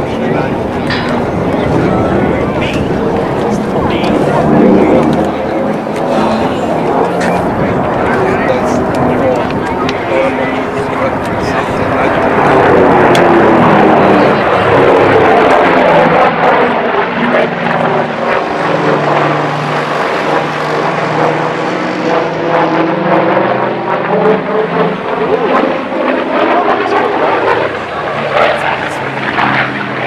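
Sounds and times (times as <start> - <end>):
propeller aircraft engines droning: 0.0 - 30.0.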